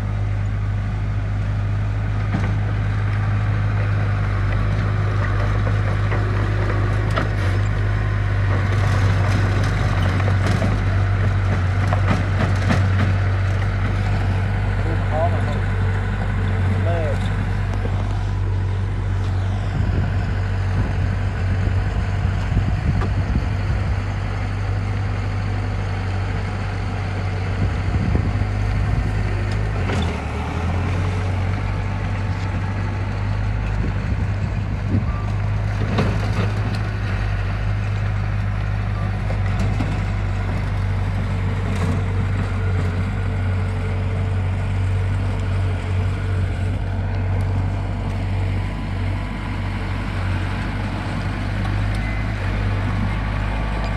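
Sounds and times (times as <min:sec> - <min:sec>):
diesel machinery engine droning: 0:00.0 - 0:53.9.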